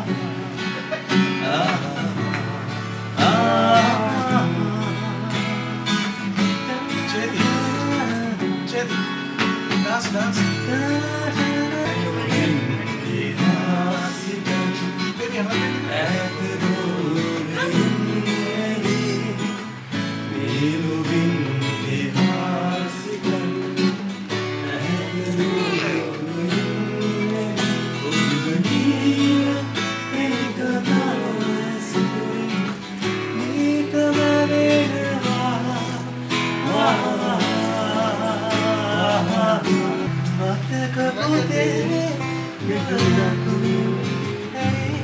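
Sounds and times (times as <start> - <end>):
acoustic guitar strumming: 0.0 - 45.0
man singing: 0.0 - 45.0.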